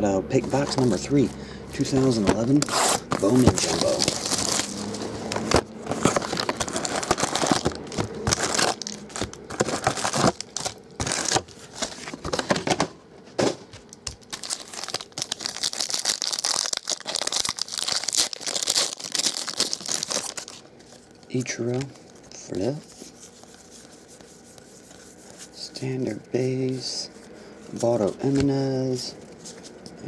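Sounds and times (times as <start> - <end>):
card packs crinkling: 0.3 - 12.8, 14.0 - 29.8.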